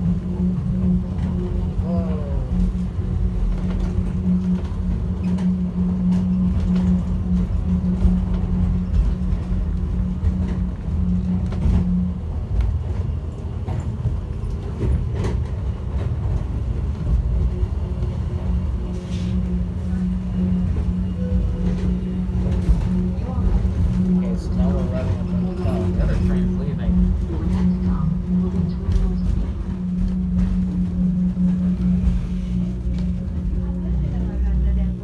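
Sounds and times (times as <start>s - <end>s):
train hum: 0.0s - 35.0s
train low rumble: 0.0s - 35.0s.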